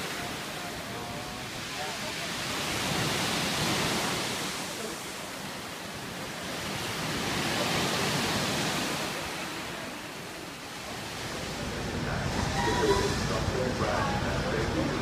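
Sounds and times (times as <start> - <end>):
sea waves breaking: 0.0 - 15.0.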